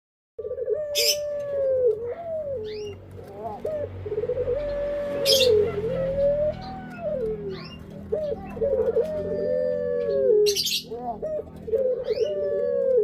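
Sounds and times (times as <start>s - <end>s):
dove cooing: 0.4s - 13.0s.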